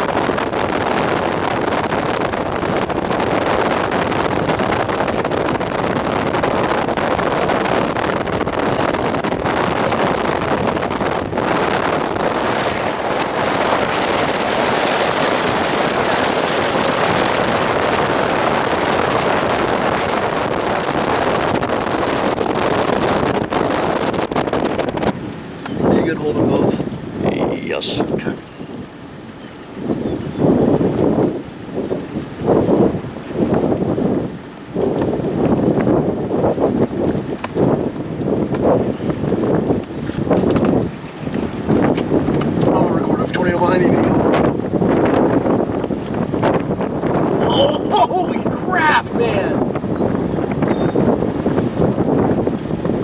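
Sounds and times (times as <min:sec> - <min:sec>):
storm wind roaring on microphone: 0:00.0 - 0:53.0.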